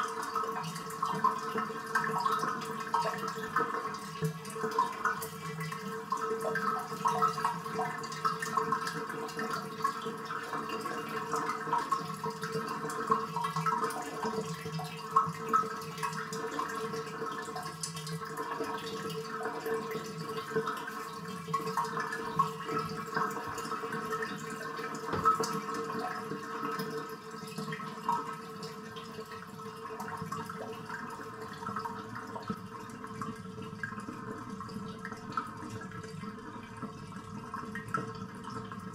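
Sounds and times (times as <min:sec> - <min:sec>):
water gurgling down drain: 0:00.0 - 0:38.9.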